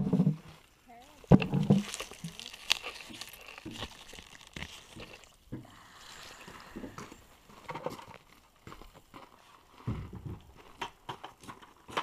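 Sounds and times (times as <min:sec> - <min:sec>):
onions pulled from soil crunching: 0:00.1 - 0:09.8.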